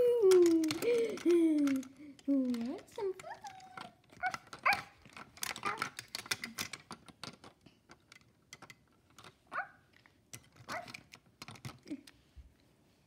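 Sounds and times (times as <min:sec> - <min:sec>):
plastic toy pieces clicking: 0:00.0 - 0:12.2.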